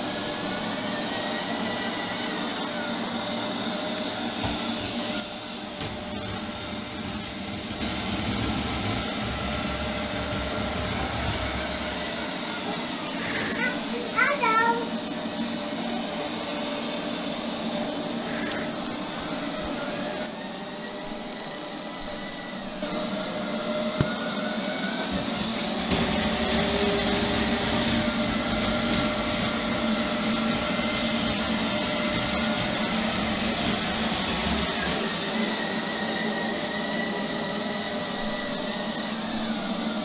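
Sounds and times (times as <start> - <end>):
robot vacuum motor whine: 0.0 - 40.0.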